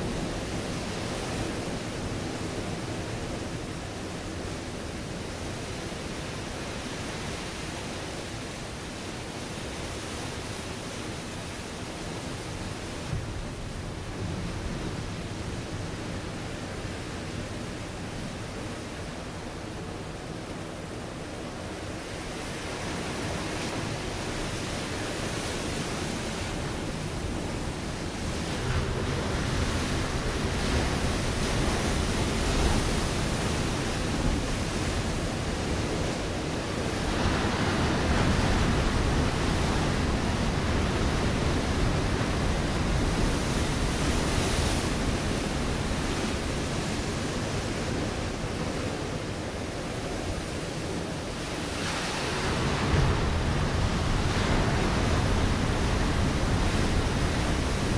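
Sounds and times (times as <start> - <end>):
ocean waves breaking on rocks: 9.4 - 57.9.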